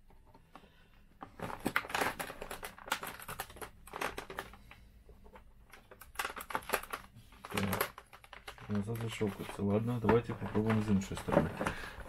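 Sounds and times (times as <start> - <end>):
plastic clicking and scraping: 0.0 - 12.0.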